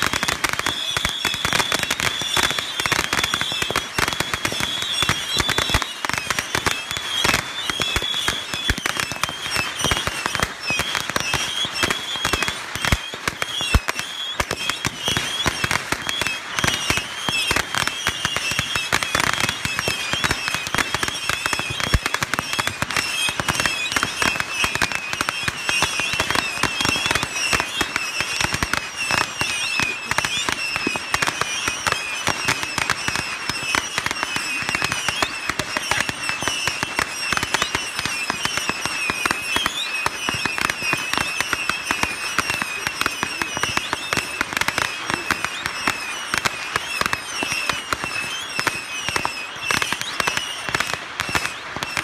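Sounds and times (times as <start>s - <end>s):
firecrackers going off: 0.0s - 52.0s.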